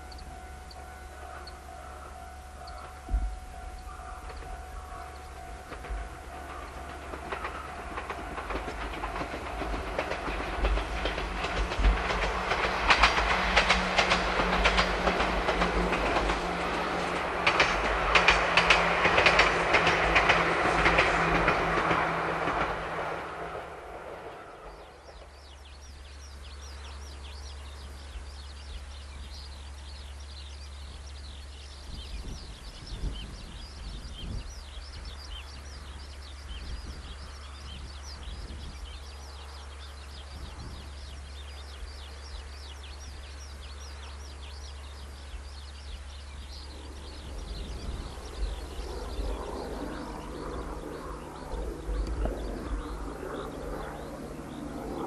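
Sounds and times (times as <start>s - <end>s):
steady low rumble: 0.0s - 30.0s, 40.2s - 55.0s.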